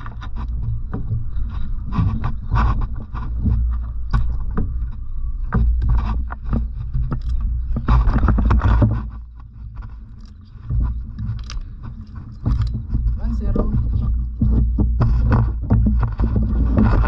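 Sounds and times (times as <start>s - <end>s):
knocks and rustling of handled gear: 0.0s - 17.0s
wind rumble on microphone: 0.0s - 17.0s.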